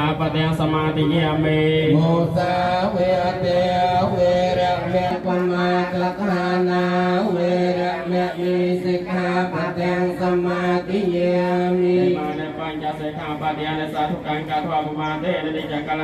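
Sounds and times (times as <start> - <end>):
monks chanting: 0.0 - 16.0.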